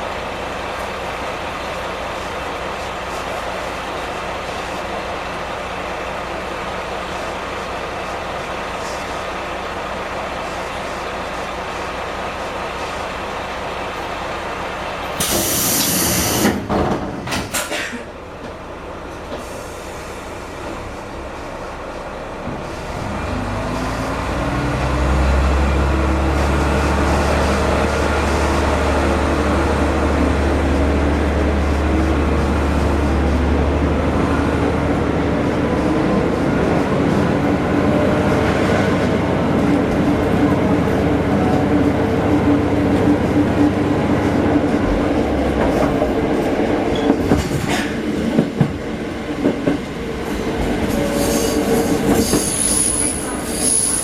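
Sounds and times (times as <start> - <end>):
diesel railcar engine: 0.0 - 54.0.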